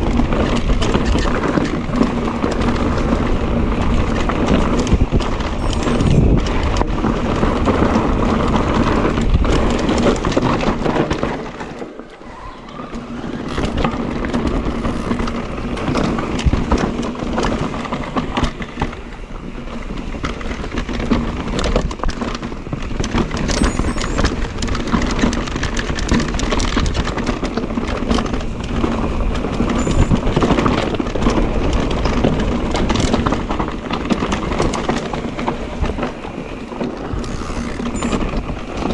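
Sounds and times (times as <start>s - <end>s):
bike rattling: 0.0s - 38.9s
tyres running over stones: 0.0s - 38.9s.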